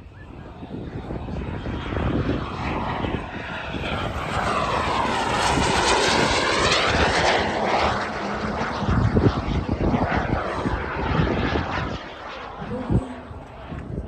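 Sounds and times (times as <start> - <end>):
jet engine whine and rush: 0.0 - 14.0.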